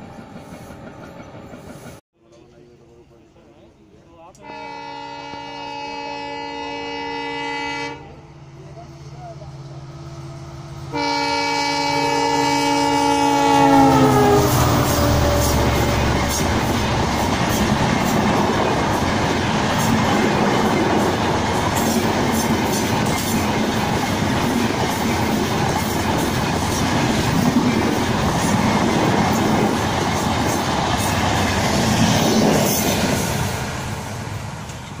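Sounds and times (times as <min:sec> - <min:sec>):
train wheels rumbling on rail: 0:00.0 - 0:02.0, 0:08.1 - 0:35.0.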